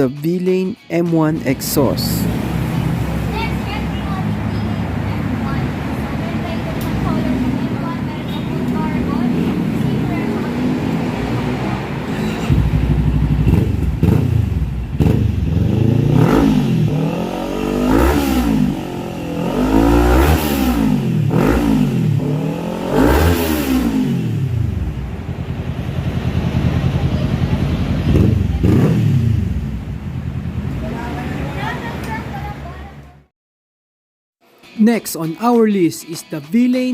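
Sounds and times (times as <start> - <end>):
motorcycle engine idling and revving: 1.4 - 33.3.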